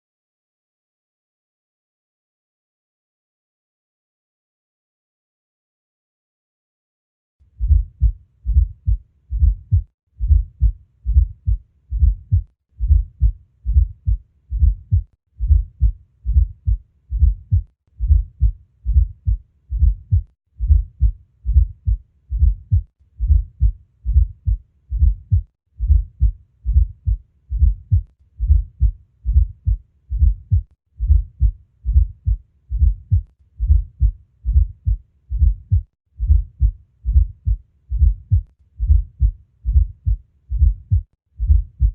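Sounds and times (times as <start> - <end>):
heart sounds low thuds: 7.6 - 41.9.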